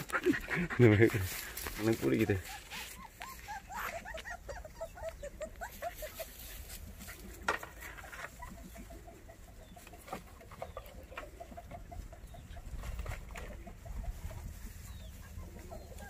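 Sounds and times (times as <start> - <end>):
high peeping calls of small animals: 0.0 - 16.0.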